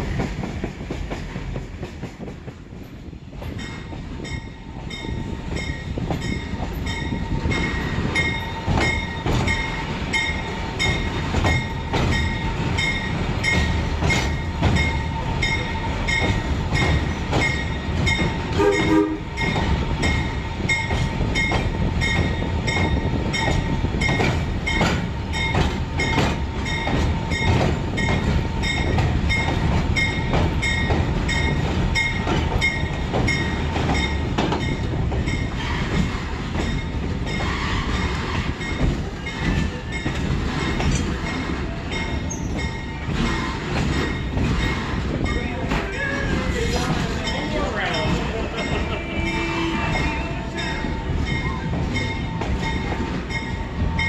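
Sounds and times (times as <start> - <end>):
train rumble: 0.0 - 54.0
wheels clacking over rail joints: 0.0 - 54.0.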